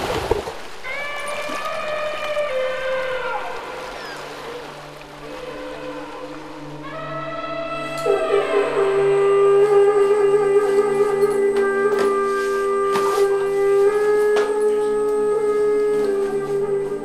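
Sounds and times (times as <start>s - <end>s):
orchestral film music: 2.6s - 17.0s.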